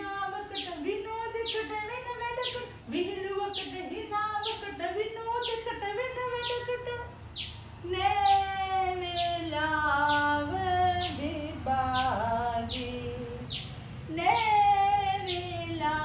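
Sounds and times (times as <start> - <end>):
woman singing: 0.0 - 7.2, 7.8 - 16.0
bird chirping: 0.0 - 16.0.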